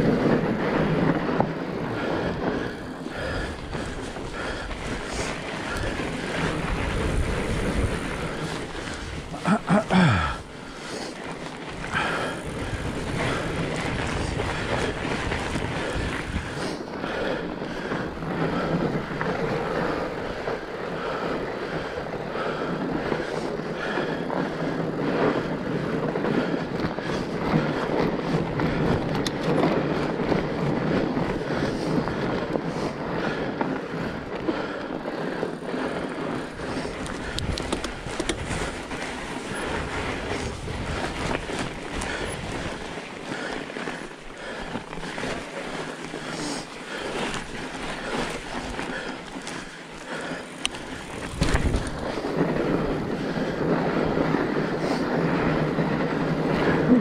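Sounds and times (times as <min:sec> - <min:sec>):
bike rattling: 0:00.0 - 0:57.0
bike tyres rolling: 0:00.0 - 0:57.0.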